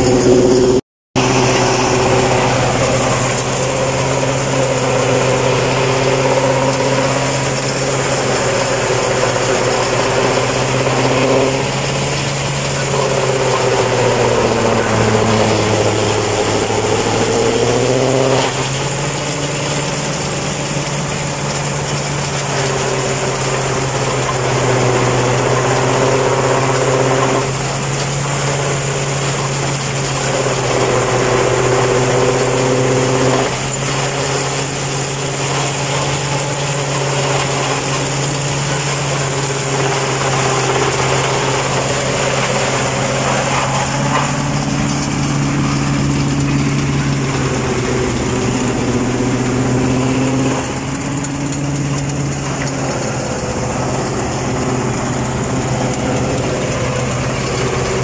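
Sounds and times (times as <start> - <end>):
tractor engine humming: 0.0 - 58.0.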